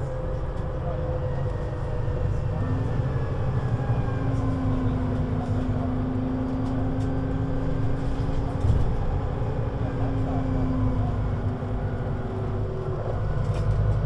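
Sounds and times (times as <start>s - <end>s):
bus engine rumble with whine: 0.0s - 14.0s.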